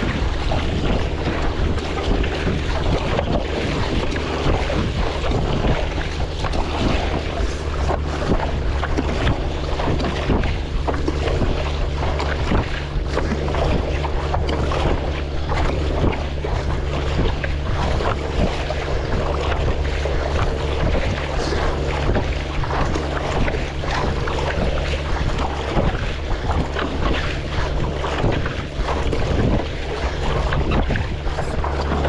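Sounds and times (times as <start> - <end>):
choppy sea water splashing: 0.0 - 32.0
wind rumbling on microphone: 0.0 - 32.0.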